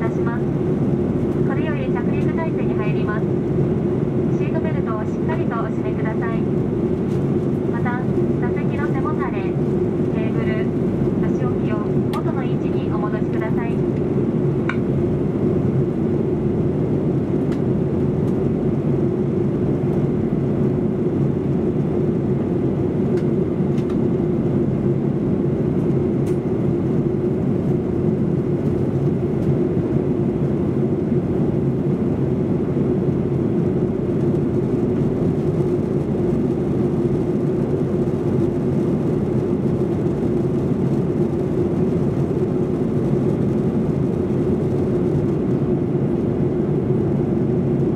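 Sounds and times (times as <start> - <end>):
airliner cabin drone: 0.0 - 47.9.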